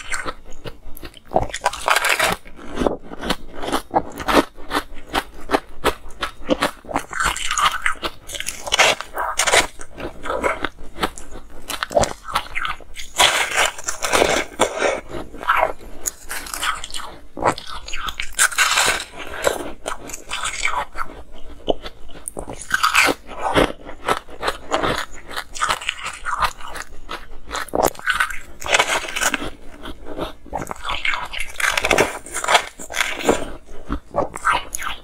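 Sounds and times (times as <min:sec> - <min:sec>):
person crunching ice: 0:00.0 - 0:35.0.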